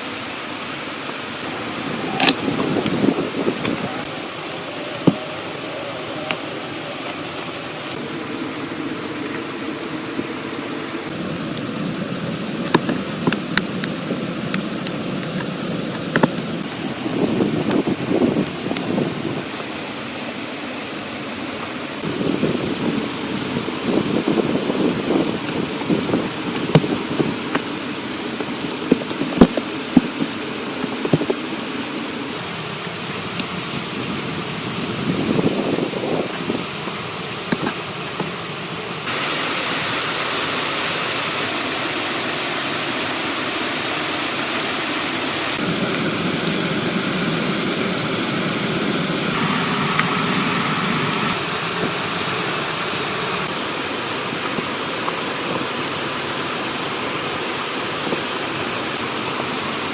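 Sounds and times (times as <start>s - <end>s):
hiss of running water: 0.0s - 59.9s.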